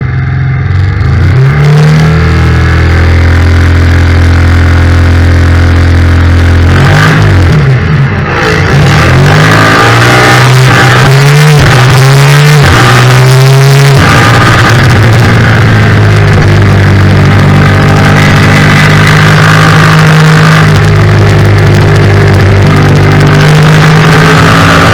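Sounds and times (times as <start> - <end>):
motorcycle engine accelerating: 0.0 - 24.9.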